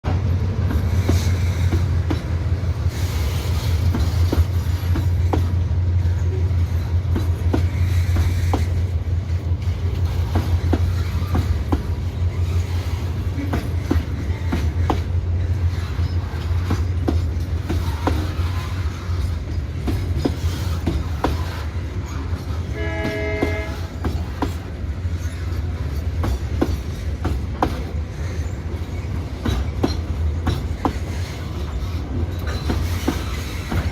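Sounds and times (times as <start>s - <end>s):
diesel locomotives rumbling: 0.0s - 33.9s
wheels clacking over rail joints: 0.1s - 33.9s.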